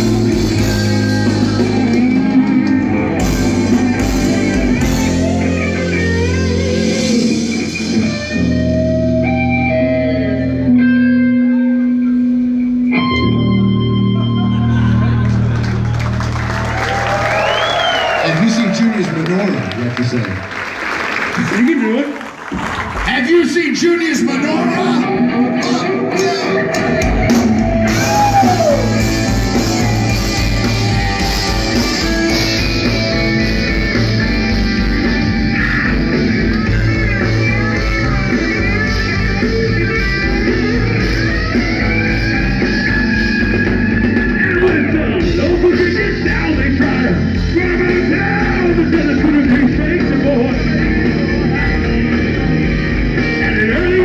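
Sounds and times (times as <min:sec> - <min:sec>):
metal band playing live: 0:00.0 - 0:17.5, 0:23.1 - 0:54.0
electric guitar sustained notes: 0:00.0 - 0:20.4, 0:24.2 - 0:54.0
keyboards sustained notes: 0:00.0 - 0:20.5, 0:23.2 - 0:54.0.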